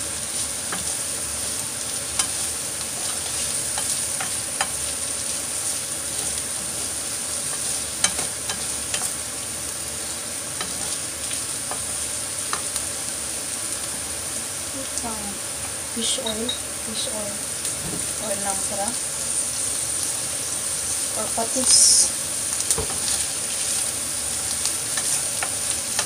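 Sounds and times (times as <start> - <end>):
meat and onions sizzling in a pan: 0.0 - 26.0.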